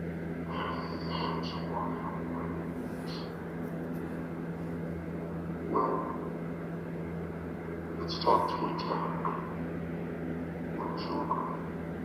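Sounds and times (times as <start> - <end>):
low electronic hum: 0.0 - 12.0.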